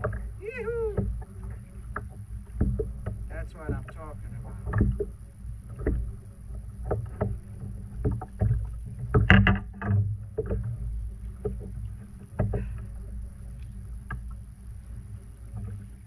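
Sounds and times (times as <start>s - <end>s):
fish flopping and knocking: 0.0s - 12.9s
steady low rumble: 0.0s - 16.0s.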